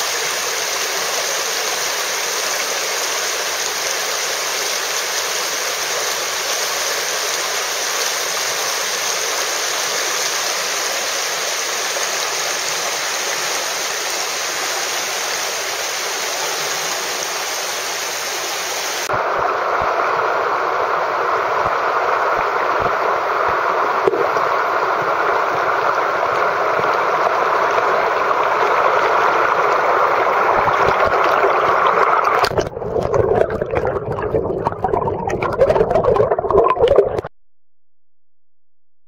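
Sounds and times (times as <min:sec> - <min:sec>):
river water over rapids: 0:00.0 - 0:32.6.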